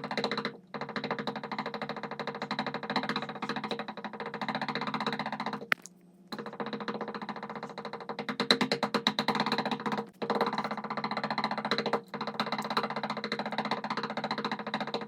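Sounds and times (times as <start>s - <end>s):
rapid knocking on a door: 0.0s - 5.7s, 6.3s - 15.0s.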